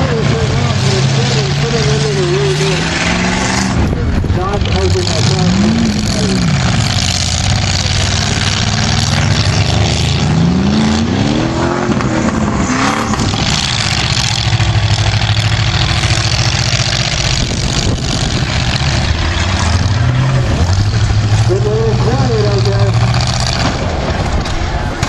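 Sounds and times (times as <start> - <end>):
engine revving: 0.0 - 25.0
steady engine drone: 0.0 - 25.0.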